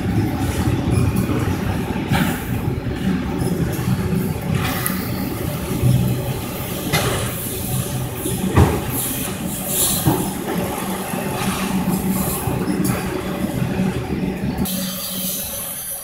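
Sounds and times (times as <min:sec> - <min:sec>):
freight car wheels rumbling: 0:00.0 - 0:14.7.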